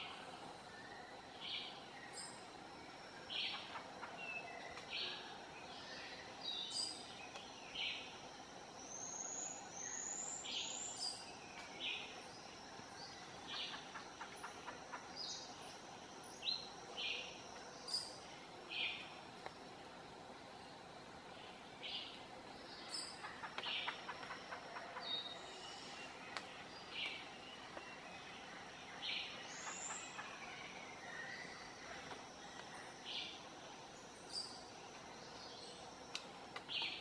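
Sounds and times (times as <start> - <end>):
faint forest background: 0.0 - 37.0.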